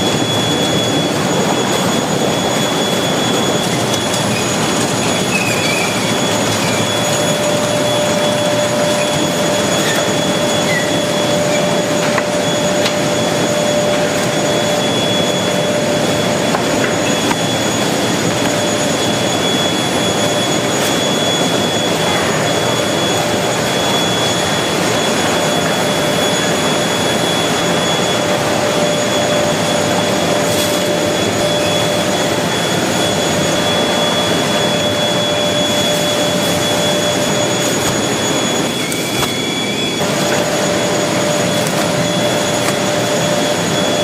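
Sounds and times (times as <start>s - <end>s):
machinery motors whining: 0.0s - 44.0s.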